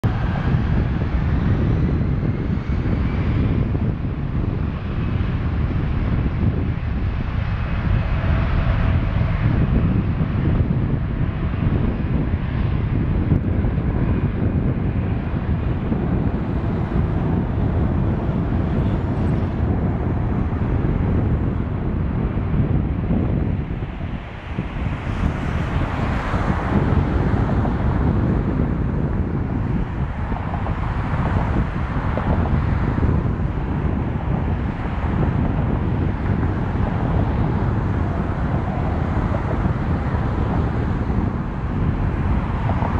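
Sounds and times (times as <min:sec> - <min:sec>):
jet engines rumbling: 0:00.0 - 0:42.9
wind buffeting microphone: 0:00.0 - 0:42.9.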